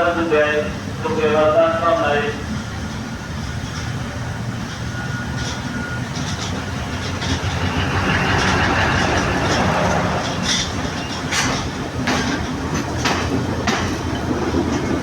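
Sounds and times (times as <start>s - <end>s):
diesel train rumbling on rails: 0.0s - 15.0s.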